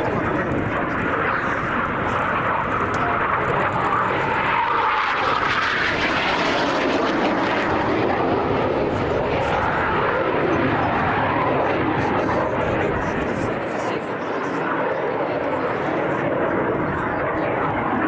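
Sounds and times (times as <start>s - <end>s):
airplane engine rushing: 0.0s - 18.0s.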